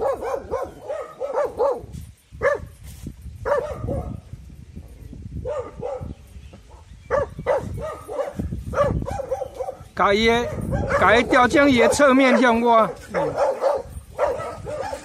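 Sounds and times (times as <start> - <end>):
dog barking: 0.0 - 2.7, 3.4 - 4.2, 5.4 - 15.0.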